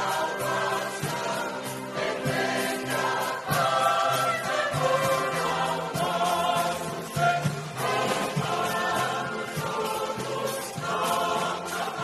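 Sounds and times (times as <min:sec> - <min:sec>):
church choir singing gospel: 0:00.0 - 0:12.0
instrumental accompaniment: 0:00.0 - 0:12.0.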